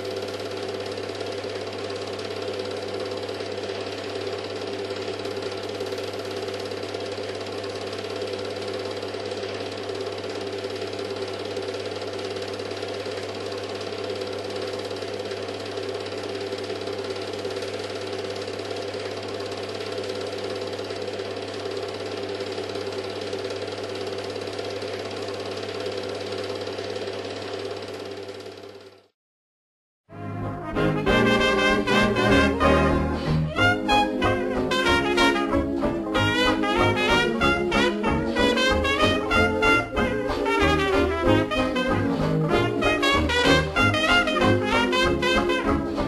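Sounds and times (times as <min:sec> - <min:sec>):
film projector whirring and rattling: 0:00.0 - 0:29.1, 0:31.4 - 0:46.0.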